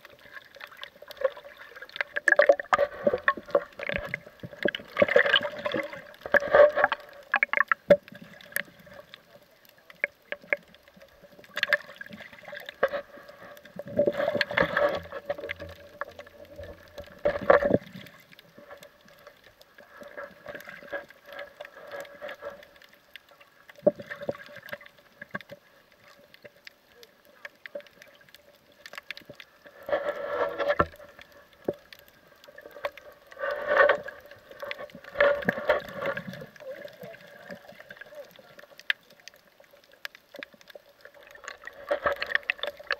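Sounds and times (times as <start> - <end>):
water gurgling underwater: 0.0 - 23.0, 23.7 - 26.4, 27.0 - 42.9.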